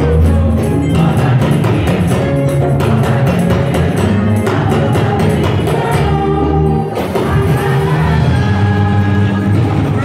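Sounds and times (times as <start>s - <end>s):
drum kit beat: 0.0s - 10.0s
gospel band music: 0.0s - 10.0s.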